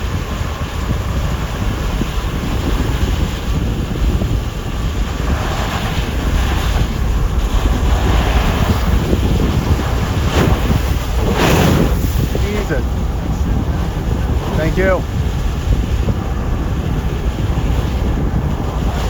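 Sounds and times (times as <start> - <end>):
strong gusty wind on microphone: 0.0 - 19.0.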